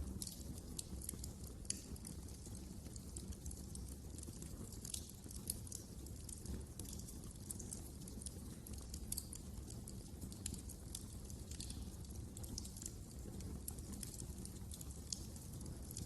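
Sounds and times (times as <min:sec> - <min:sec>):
fire crackling in a fireplace: 0:00.0 - 0:16.0.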